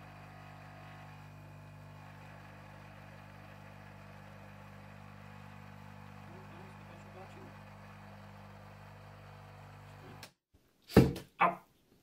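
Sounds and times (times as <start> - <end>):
capsule machine pump humming: 0.0 - 10.2.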